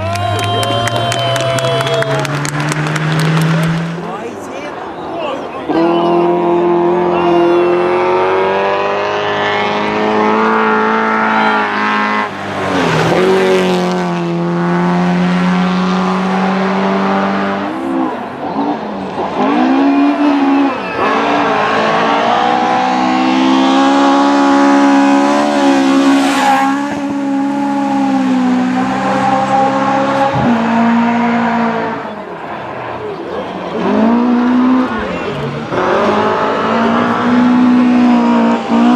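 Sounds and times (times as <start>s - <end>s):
rally car engine at high revs: 0.0s - 38.9s
rush of tyre noise: 0.0s - 38.9s.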